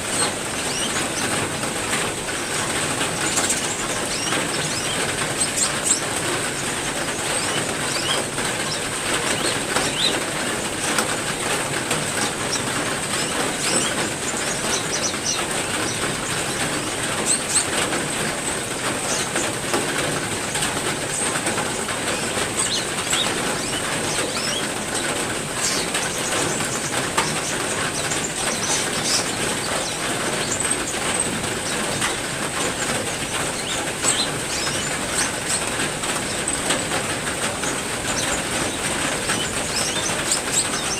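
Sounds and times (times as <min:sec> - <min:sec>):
heavy rain falling: 0:00.0 - 0:40.9
small birds chirping: 0:00.0 - 0:40.9.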